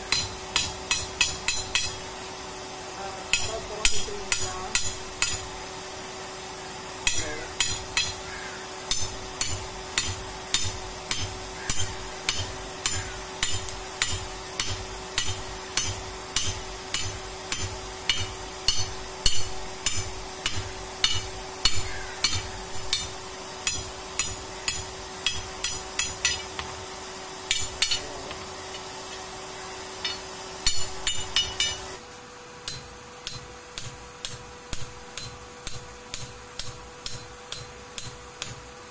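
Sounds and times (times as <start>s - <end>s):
faint steady hum: 0.0s - 38.9s
hammer striking metal rod: 0.1s - 2.0s, 3.3s - 5.5s, 7.0s - 8.2s, 8.9s - 26.7s, 27.5s - 29.2s, 30.0s - 31.9s, 32.6s - 38.6s.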